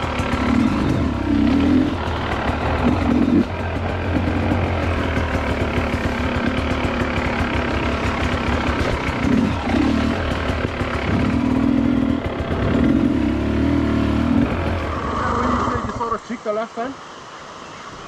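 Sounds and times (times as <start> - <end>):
dirt bike engine revving: 0.0 - 16.2.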